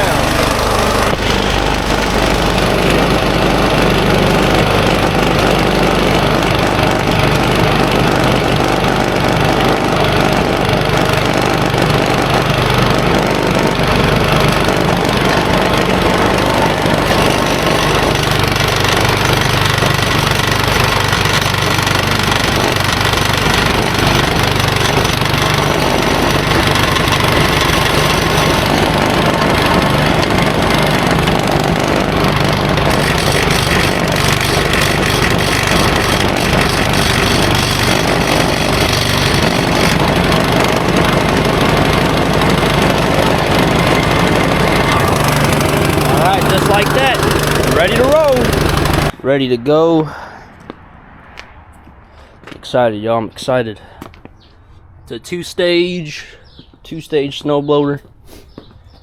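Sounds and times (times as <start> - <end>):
snowblower engine running: 0.0 - 49.2.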